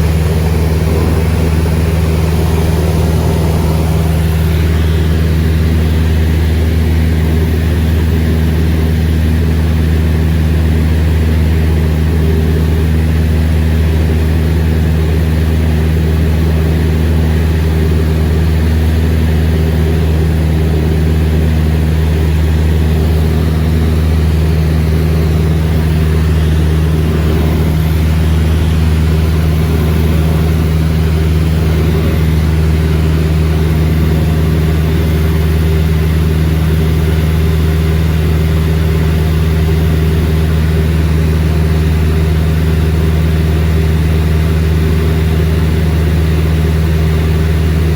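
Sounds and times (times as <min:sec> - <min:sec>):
propeller plane engine drone: 0:00.0 - 0:47.9.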